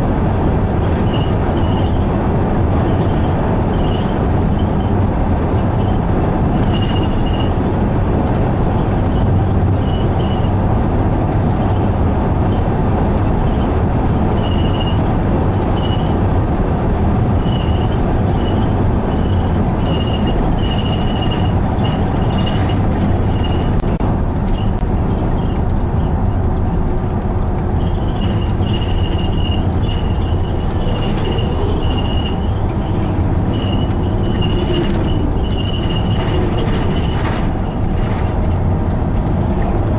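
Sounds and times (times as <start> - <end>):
vehicle road and engine noise: 0.0 - 39.9.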